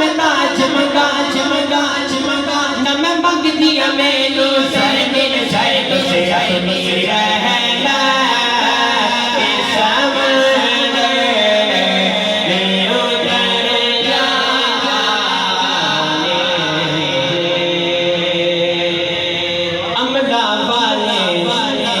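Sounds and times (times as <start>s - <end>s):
man singing melismatic devotional song: 0.0s - 22.0s.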